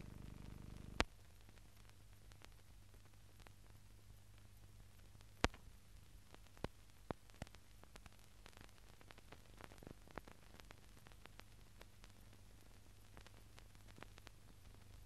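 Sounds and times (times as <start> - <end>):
film soundtrack hum and hiss: 0.0 - 15.0.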